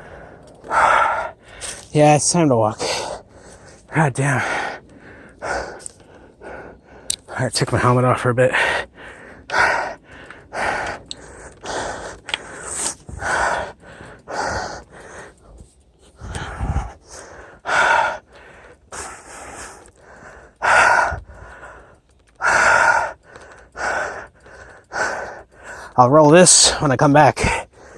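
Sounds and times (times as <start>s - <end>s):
man panting hard: 0.0s - 27.9s.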